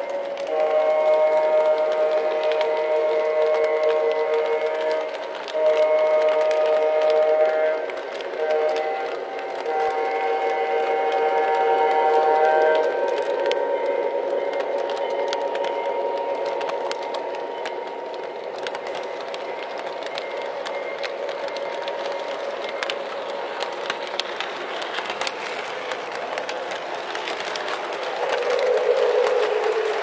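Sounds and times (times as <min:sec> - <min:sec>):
toy train running on track: 0:00.0 - 0:30.0
wheels clicking on track: 0:00.0 - 0:30.0.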